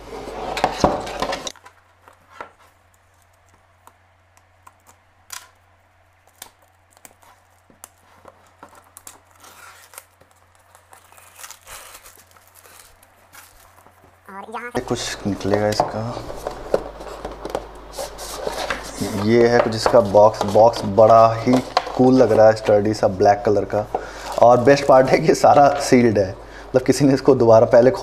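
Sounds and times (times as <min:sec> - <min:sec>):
plastic wrap crinkling: 0:01.4 - 0:28.0.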